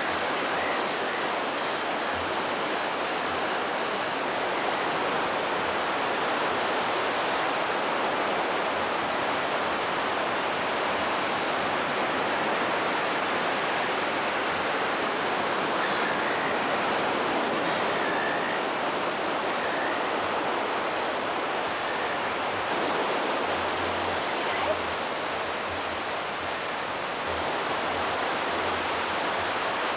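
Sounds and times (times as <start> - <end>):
videotape hiss: 0.0 - 29.9.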